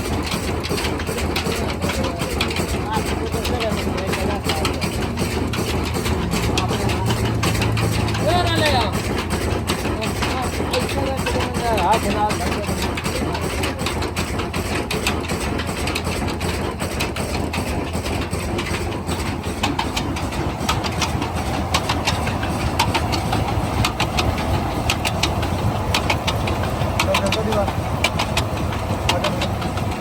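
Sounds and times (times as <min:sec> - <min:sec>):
diesel engine running: 0:00.0 - 0:30.0
rapid clatter of knocks: 0:00.0 - 0:30.0.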